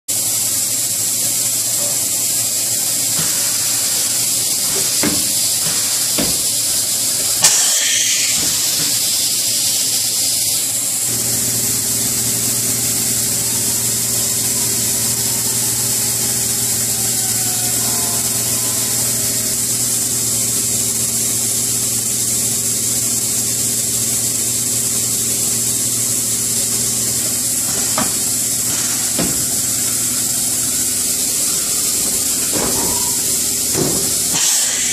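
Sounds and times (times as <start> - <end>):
machining center high hiss: 0.1 - 34.9.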